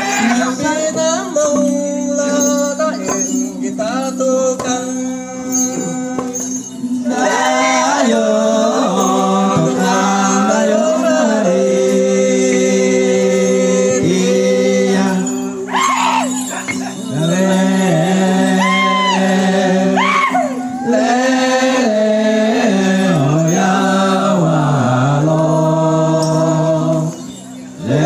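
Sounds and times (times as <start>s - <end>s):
person singing: 0.0s - 27.2s.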